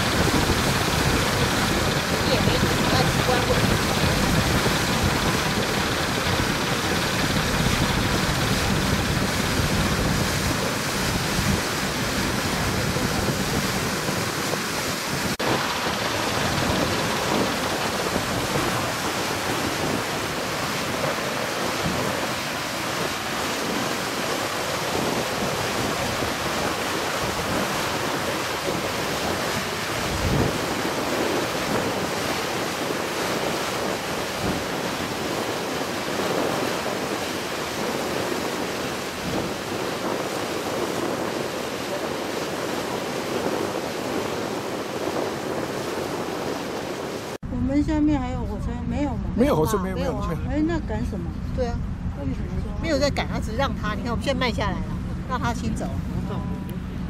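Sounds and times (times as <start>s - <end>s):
water noise: 0.0s - 57.0s
wind rushing over microphone: 0.0s - 57.0s.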